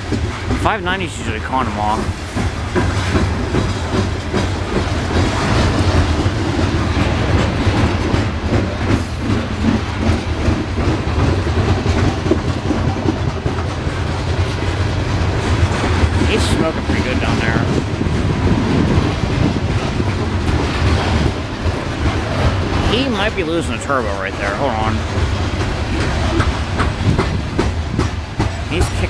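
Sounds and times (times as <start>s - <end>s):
freight train rumbling: 0.0s - 29.0s
train wheels clicking over rail joints: 0.0s - 29.0s.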